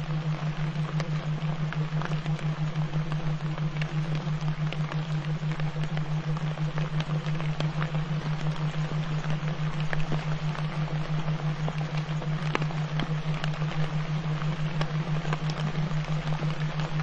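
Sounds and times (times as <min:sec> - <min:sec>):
hiss with crackling ticks: 0:00.0 - 0:17.0
low fluttering hum: 0:00.0 - 0:17.0.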